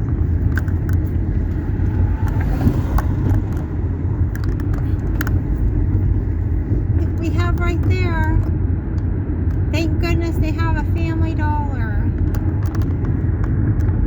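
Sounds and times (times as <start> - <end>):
car interior road and engine noise: 0.0 - 14.0.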